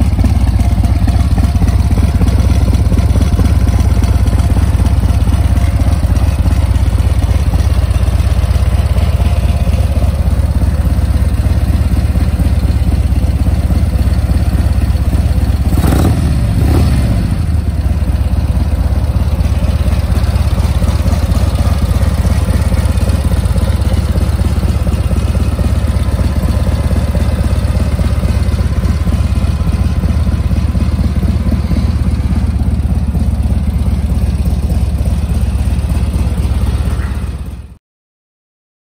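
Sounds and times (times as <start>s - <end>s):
motorcycle engine idling: 0.0s - 37.8s.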